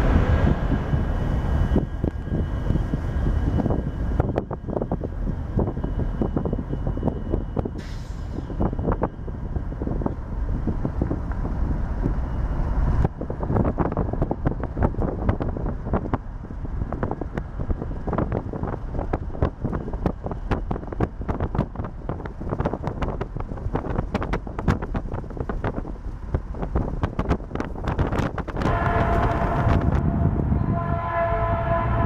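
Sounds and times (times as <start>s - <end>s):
moving vehicle rumble: 0.0s - 32.0s
wind buffeting microphone: 0.0s - 32.0s.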